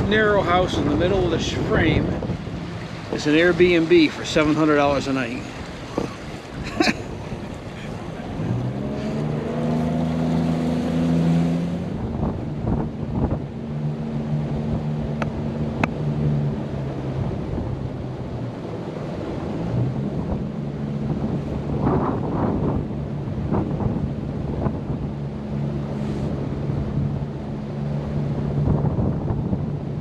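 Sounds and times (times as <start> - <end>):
motorboat engine running: 0.0 - 30.0
water around hull: 0.0 - 30.0
wind buffeting microphone: 0.0 - 30.0.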